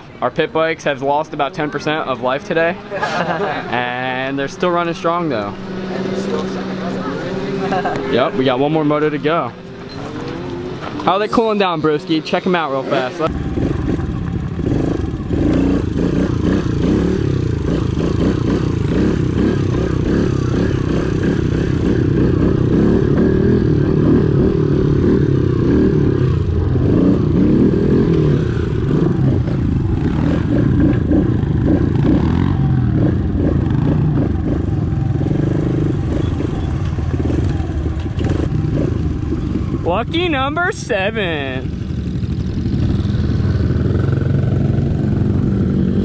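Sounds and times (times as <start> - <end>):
pit bike engines revving: 0.0 - 46.0.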